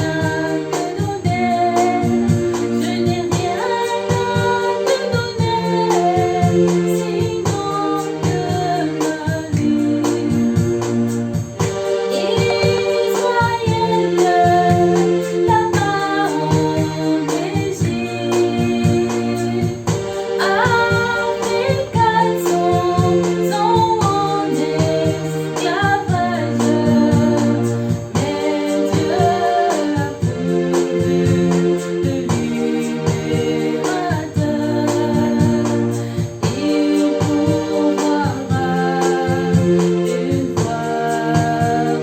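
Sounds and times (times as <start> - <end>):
woman singing: 0.0 - 10.9, 12.1 - 42.0
organ chords: 0.0 - 42.0
steady beat: 0.0 - 42.0.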